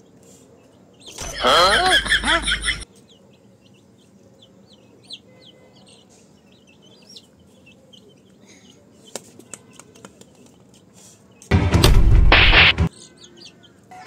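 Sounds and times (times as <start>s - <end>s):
baby chicks peeping: 0.0s - 11.5s, 12.9s - 14.0s.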